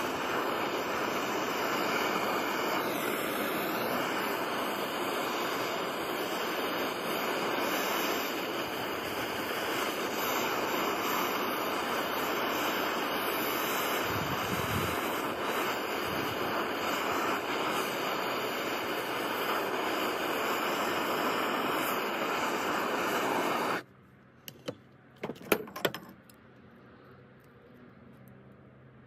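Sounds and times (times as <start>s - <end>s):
gas torch burning: 0.0s - 23.9s, 24.5s - 26.7s.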